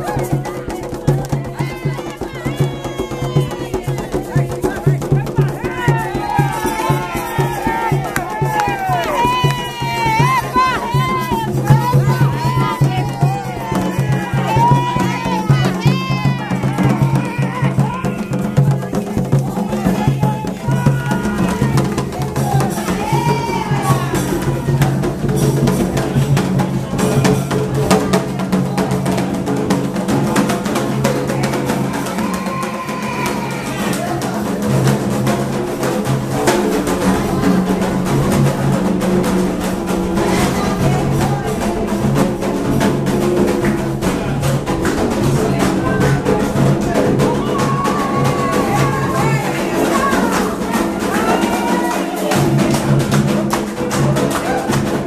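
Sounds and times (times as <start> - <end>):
clacking percussion beat: 0.0 - 55.0
drums: 0.0 - 55.0
voices singing: 0.0 - 55.0.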